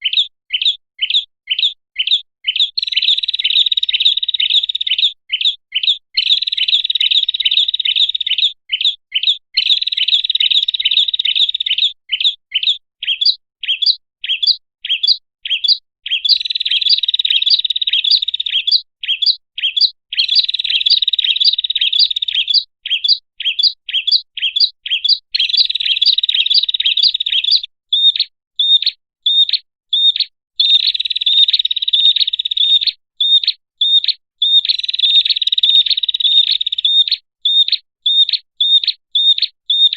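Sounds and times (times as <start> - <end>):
bird trilling: 0.0 - 39.9.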